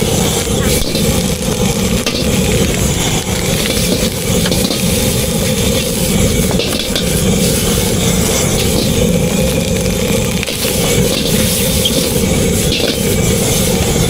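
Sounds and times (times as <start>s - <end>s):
food sizzling in hot oil: 0.0s - 14.0s
gas burner roar: 0.0s - 14.0s.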